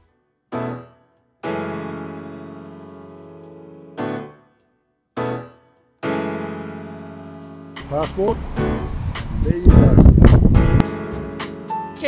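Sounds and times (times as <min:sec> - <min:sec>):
piano chords ringing: 0:00.0 - 0:04.6, 0:05.2 - 0:12.0.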